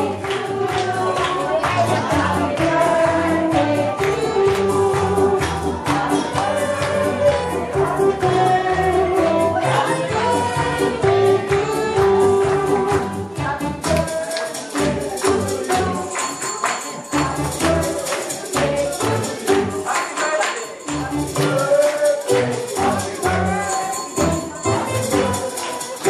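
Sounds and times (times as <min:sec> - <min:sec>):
music with percussive beat: 0:00.0 - 0:26.0.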